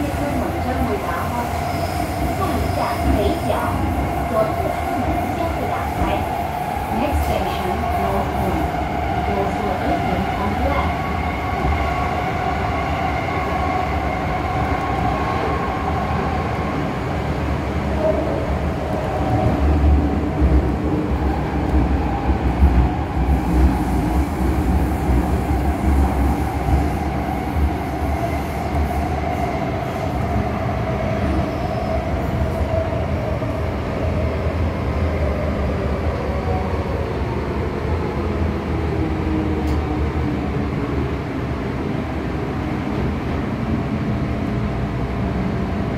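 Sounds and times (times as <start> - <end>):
metro train rumbling: 0.0 - 45.9
train whining: 0.0 - 45.9.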